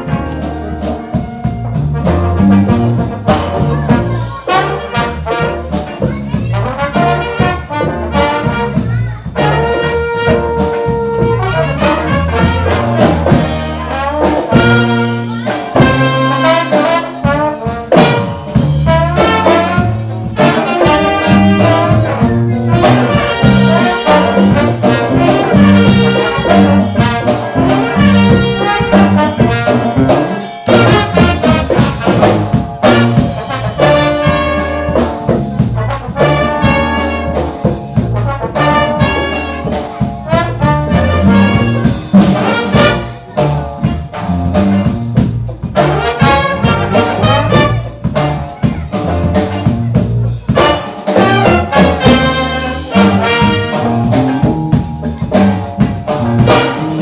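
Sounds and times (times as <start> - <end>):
brass section playing jazz-funk: 0.0 - 57.0
drums: 0.0 - 57.0
walking bass line: 0.0 - 57.0.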